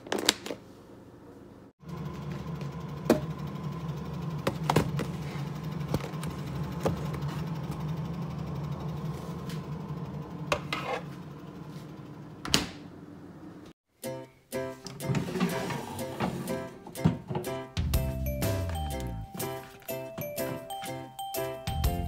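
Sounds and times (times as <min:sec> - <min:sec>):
refrigerator humming: 0:00.0 - 0:13.8, 0:14.9 - 0:22.0.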